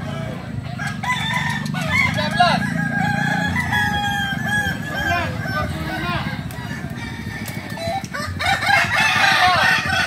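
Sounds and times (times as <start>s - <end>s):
roosters crowing: 0.0s - 10.0s.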